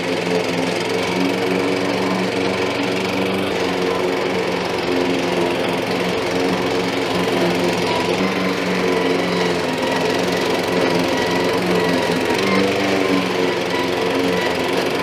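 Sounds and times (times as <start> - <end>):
lawn mower engine hum: 0.0 - 15.0.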